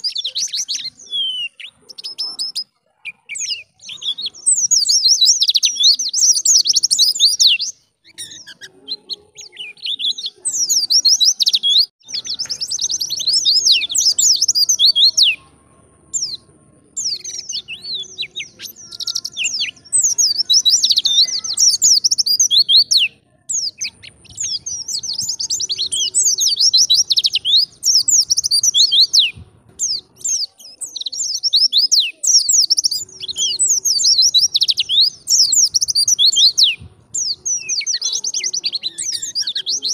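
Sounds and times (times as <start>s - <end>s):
bird twittering: 0.0s - 15.5s, 17.0s - 39.9s.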